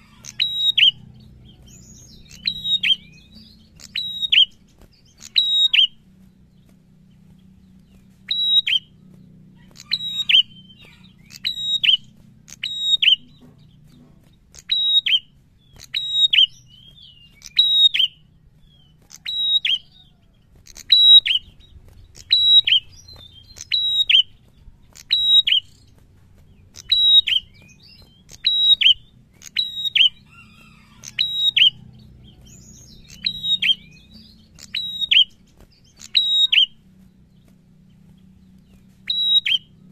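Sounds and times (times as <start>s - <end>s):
bird singing high sharp notes: 0.0s - 6.7s, 7.4s - 20.0s, 20.7s - 26.0s, 26.6s - 36.9s, 38.7s - 39.9s.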